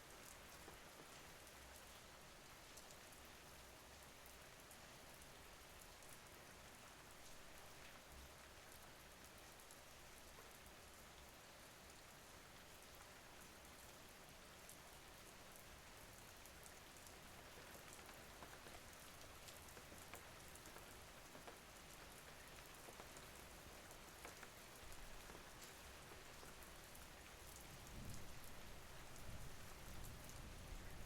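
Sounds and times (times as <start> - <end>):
light rain falling: 0.0 - 31.0.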